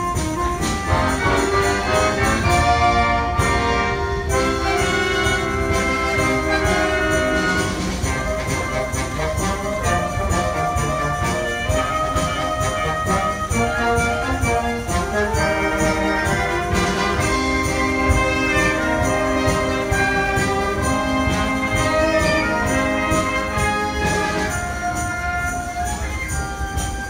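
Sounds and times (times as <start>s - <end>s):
brass band playing: 0.0s - 27.0s.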